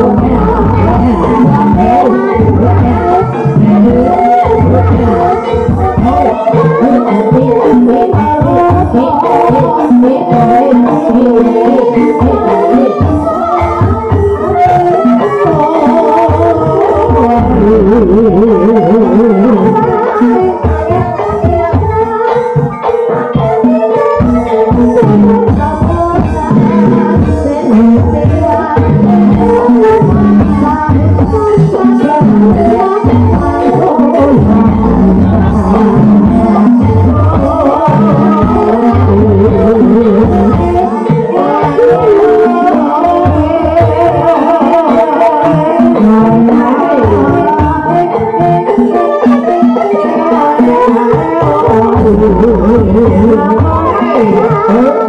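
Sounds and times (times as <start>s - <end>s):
hand drums beating: 0.0s - 55.0s
person singing: 0.0s - 55.0s.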